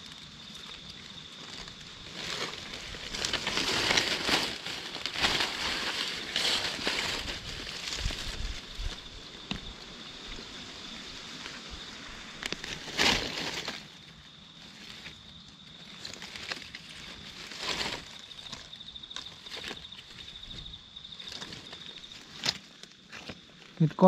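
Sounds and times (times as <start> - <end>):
rustling in dry leaves: 0.0 - 24.0.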